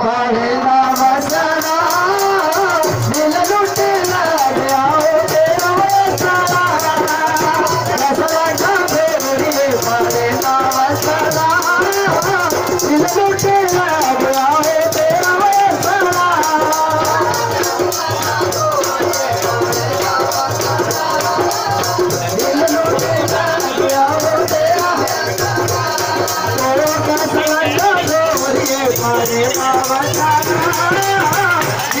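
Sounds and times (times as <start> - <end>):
fast high-pitched percussion beat: 0.9 - 32.0.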